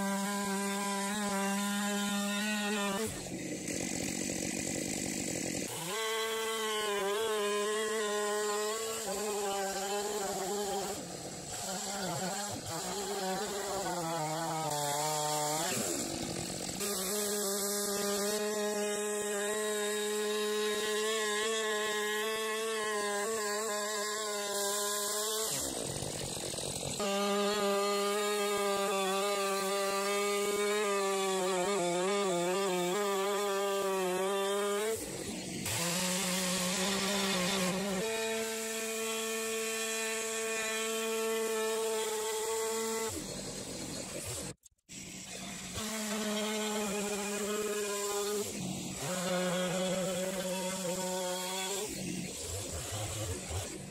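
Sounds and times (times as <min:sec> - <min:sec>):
chainsaw ripping through log: 0:00.0 - 0:53.9.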